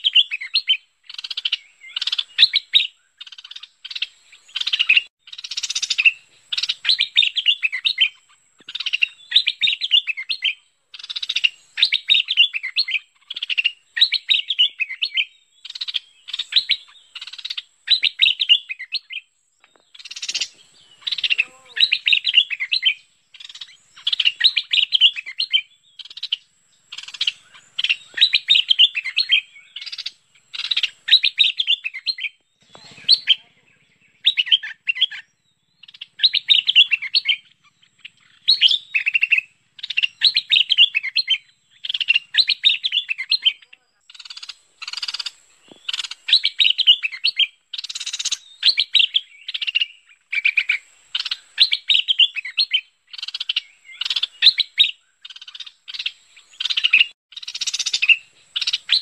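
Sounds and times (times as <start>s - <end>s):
bird song chattering phrases: 0.0s - 59.0s.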